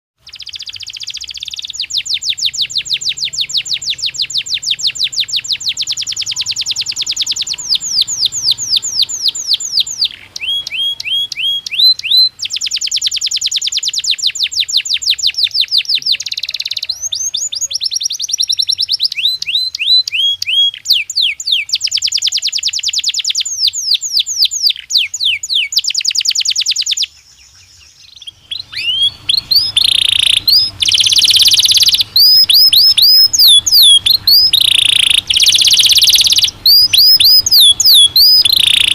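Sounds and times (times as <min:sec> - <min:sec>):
canary singing: 0:00.2 - 0:38.9.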